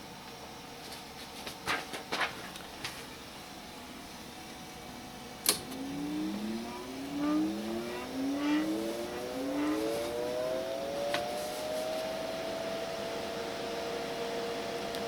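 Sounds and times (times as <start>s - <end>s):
cooling fan whine: 0.0s - 15.0s.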